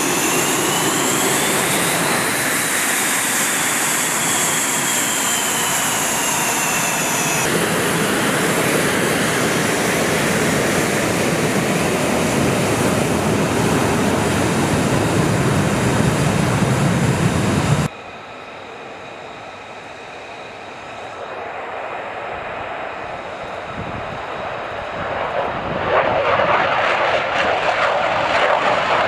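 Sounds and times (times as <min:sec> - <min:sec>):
distant airfield background: 0:00.0 - 0:29.0
jet engine whine: 0:00.0 - 0:29.0
loud jet engine rush: 0:00.0 - 0:29.0.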